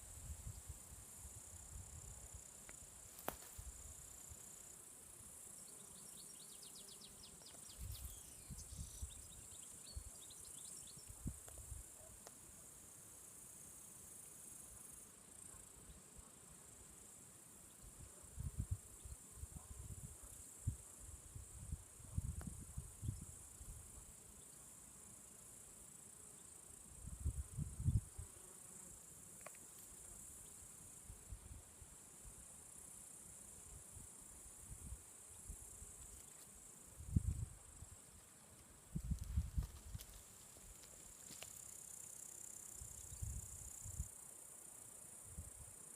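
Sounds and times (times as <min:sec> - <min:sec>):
crickets chirring: 0:00.0 - 0:12.1, 0:17.0 - 0:45.9.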